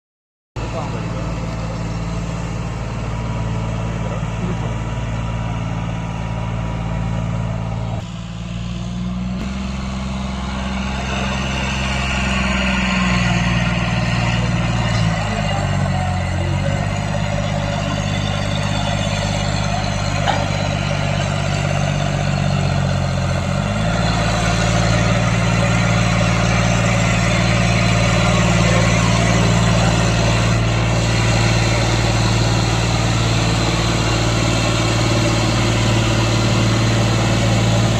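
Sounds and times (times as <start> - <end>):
tractor engine running: 0.6 - 37.9.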